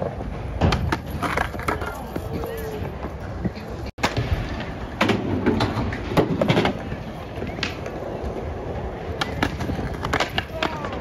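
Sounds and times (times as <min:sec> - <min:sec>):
skateboard clacking on concrete: 0:00.0 - 0:11.0
skateboard wheels rolling on concrete: 0:00.0 - 0:11.0.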